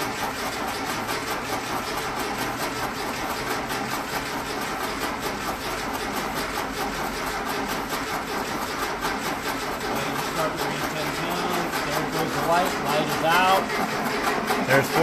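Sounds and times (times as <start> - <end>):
starter cranking engine: 0.0 - 15.0.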